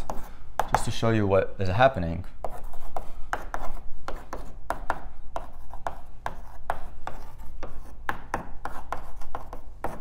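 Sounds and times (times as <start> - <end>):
chalk tapping and scraping on blackboard: 0.0 - 1.1, 2.2 - 10.0.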